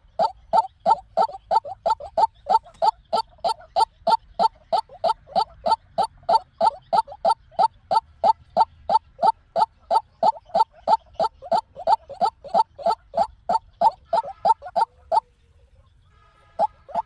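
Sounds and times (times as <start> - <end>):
waterhen calling: 0.0 - 15.3, 16.4 - 17.0.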